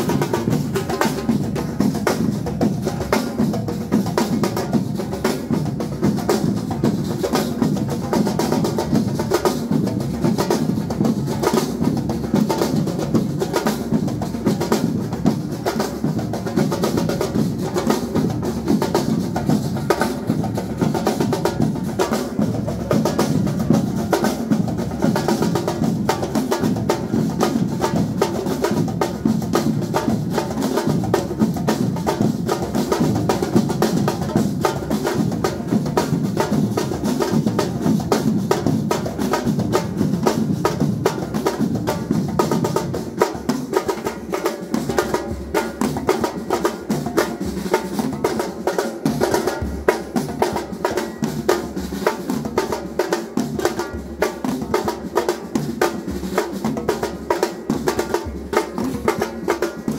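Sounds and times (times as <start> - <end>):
other percussion: 0.0 - 59.9
snare drums: 0.0 - 59.9.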